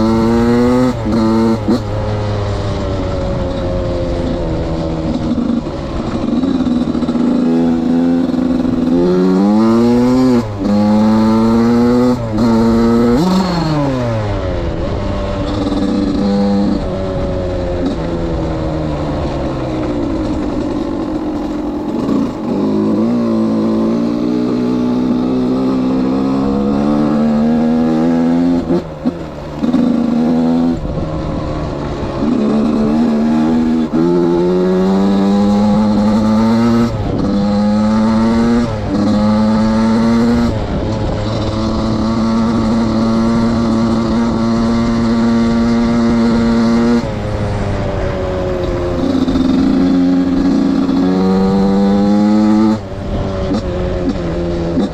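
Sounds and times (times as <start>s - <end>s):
two-stroke engine revving hard: 0.0s - 18.4s, 19.4s - 54.9s.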